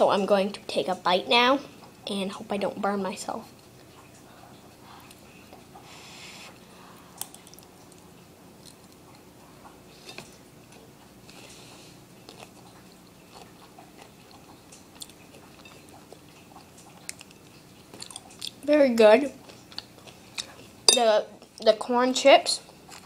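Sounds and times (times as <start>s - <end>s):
faint chewing: 3.4s - 21.7s, 22.6s - 23.0s.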